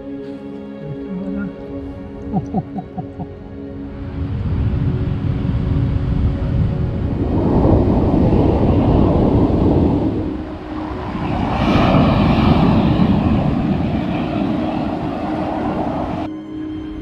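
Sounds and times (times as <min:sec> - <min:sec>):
wind noise on microphone: 0:00.8 - 0:17.0.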